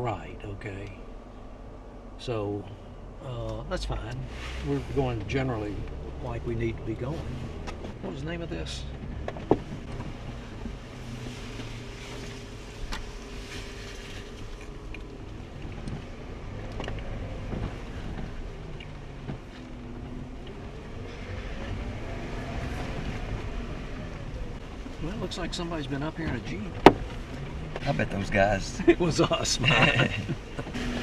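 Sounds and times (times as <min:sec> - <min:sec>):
off-road vehicle engine drone: 0:00.0 - 0:31.0.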